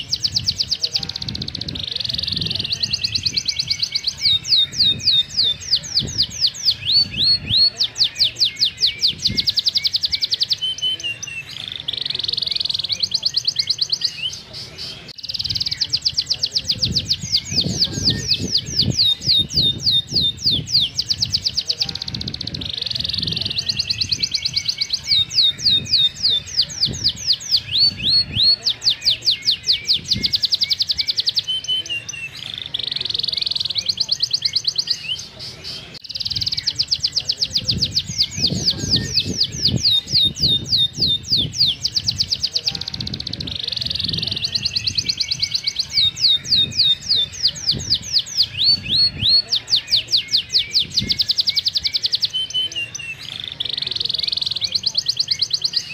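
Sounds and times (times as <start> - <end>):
canary singing: 0.0 - 55.9.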